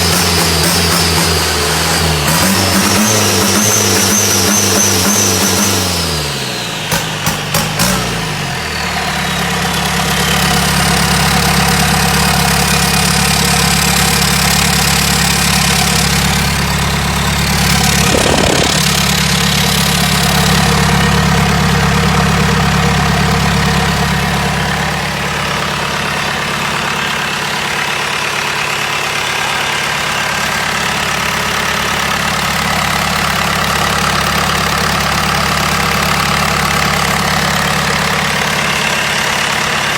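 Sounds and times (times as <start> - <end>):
diesel boat engine idling: 5.9 - 39.9.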